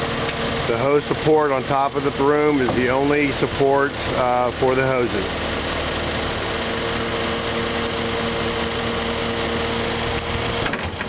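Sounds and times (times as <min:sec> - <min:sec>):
spinning broom hum: 0:00.0 - 0:10.6
diesel engine running: 0:00.0 - 0:11.0.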